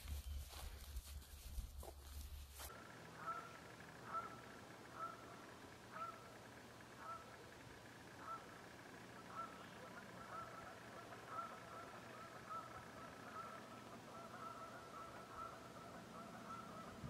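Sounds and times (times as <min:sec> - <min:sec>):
distant geese honking: 0:00.0 - 0:17.0.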